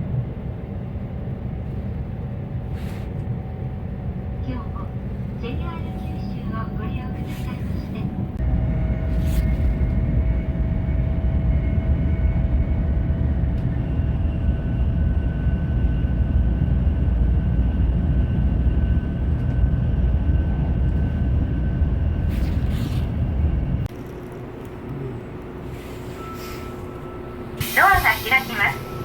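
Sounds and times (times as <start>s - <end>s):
faint whining tones: 0.0s - 29.0s
train cabin rumble: 0.0s - 29.0s.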